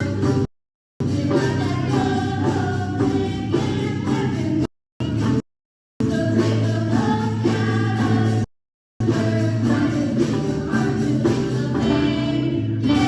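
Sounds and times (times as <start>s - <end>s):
music with singing: 0.0s - 5.4s, 6.0s - 13.0s.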